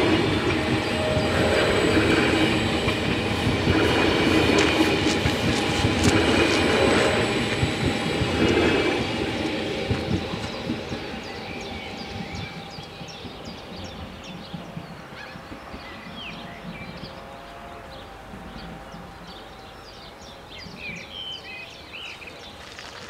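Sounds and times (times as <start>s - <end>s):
train wheels clattering on track: 0.0s - 21.1s.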